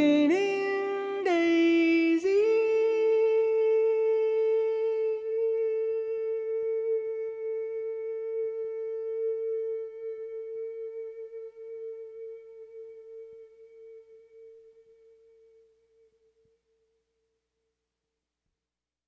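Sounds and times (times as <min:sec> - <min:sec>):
person humming a long note: 0:00.0 - 0:15.7.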